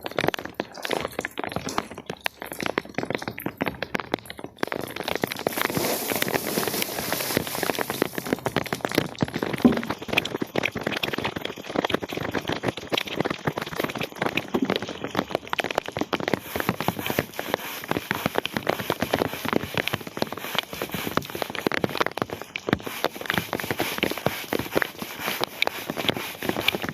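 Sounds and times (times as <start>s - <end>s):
rain falling: 0.1s - 26.9s.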